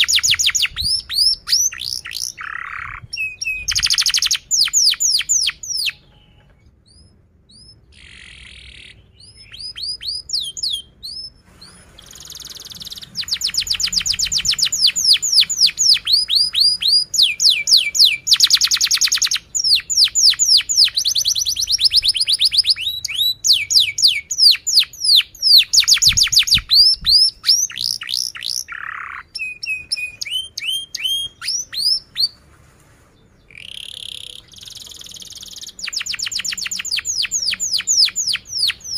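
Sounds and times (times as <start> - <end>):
canary singing trills: 0.0 - 32.5, 33.2 - 38.9.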